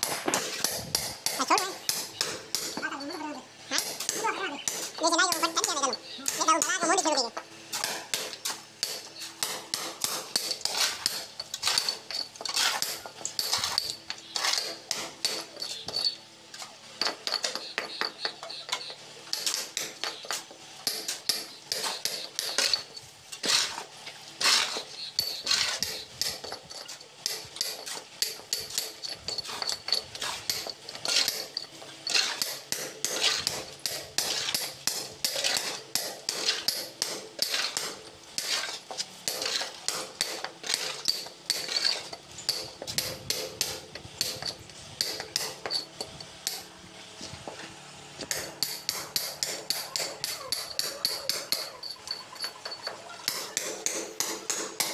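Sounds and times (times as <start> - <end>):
hammer striking steel chisel: 0.0 - 6.8, 7.7 - 16.2, 17.0 - 23.8, 24.4 - 46.7, 48.2 - 54.9.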